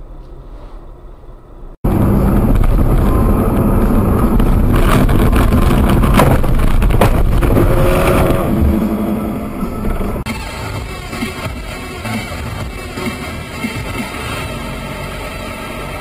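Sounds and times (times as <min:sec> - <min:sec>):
loud engine and road noise: 0:01.8 - 0:16.0.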